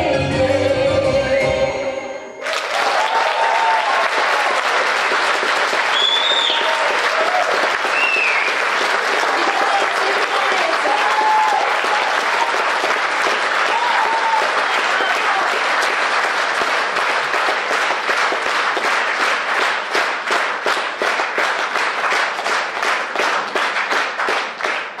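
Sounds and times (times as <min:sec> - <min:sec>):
audience applauding: 0:02.4 - 0:25.0.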